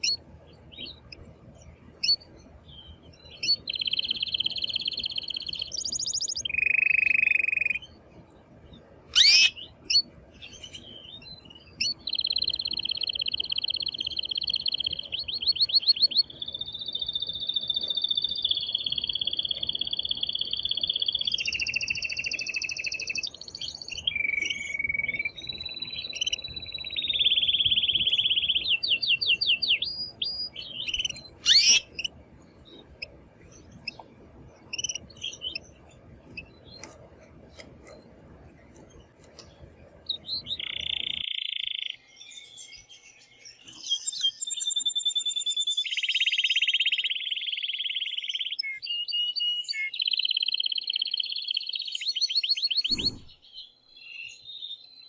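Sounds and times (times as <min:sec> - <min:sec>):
canary singing: 0:00.0 - 0:08.0, 0:09.1 - 0:38.1, 0:38.8 - 0:55.0.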